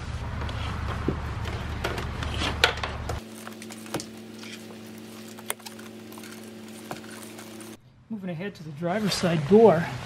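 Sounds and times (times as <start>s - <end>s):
steady background hum: 0.0s - 9.0s.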